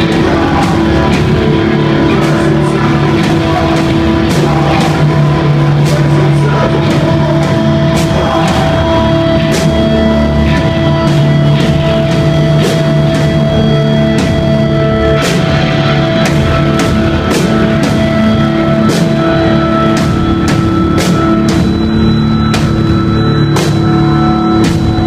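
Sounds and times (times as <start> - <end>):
drum kit with cymbal crashes: 0.0 - 25.0
electric guitars ringing chords: 0.0 - 25.0.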